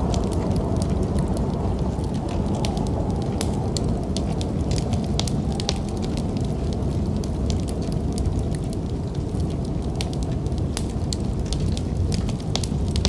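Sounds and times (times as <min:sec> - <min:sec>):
low rumble of wind: 0:00.0 - 0:13.0
wood fire crackling and popping: 0:00.0 - 0:13.0.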